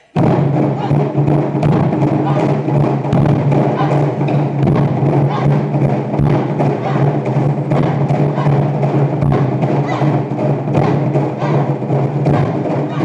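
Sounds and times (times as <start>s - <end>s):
taiko drum ensemble: 0.1s - 13.0s.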